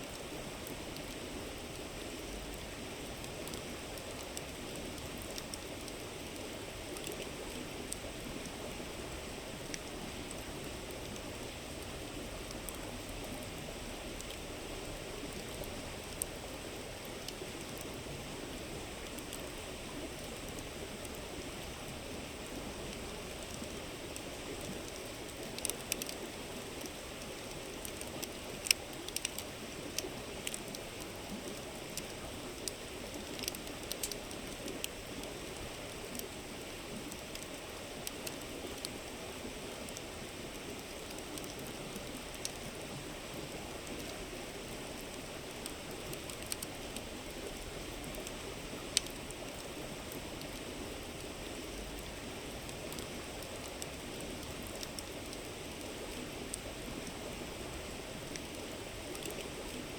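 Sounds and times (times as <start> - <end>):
campfire crackling and popping: 0.1 - 59.9.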